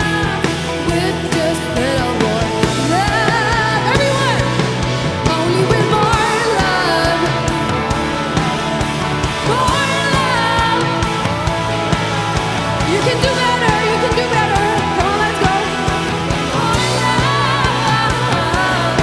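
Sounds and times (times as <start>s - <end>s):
drums and bass: 0.0s - 19.0s
gliding lead guitar melody: 0.0s - 19.0s.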